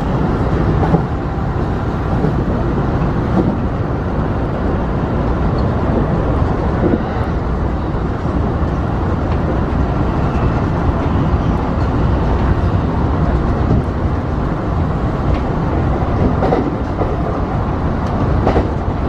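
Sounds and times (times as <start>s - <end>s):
track clacks: 0.0s - 19.0s
train wheels rumbling on rail: 0.0s - 19.0s.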